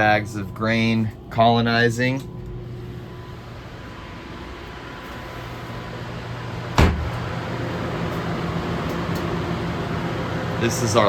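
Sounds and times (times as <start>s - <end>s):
fans and air handling hum: 0.0s - 11.0s.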